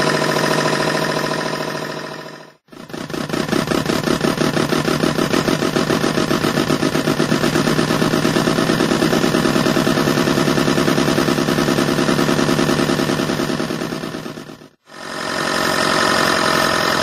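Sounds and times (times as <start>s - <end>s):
simulated engine chugging from speaker: 0.0s - 17.0s.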